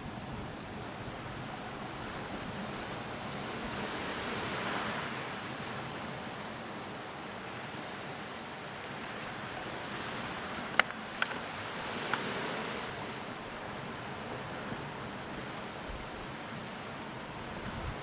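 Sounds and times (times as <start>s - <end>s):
surf washing on beach: 0.0s - 18.0s.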